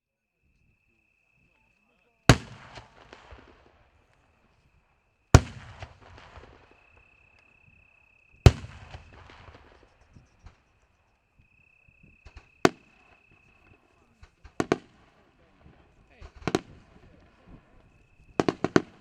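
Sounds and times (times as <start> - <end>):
fireworks crackling: 2.3 - 10.8, 12.2 - 19.0
fireworks bursting: 2.3 - 10.9, 12.0 - 19.0.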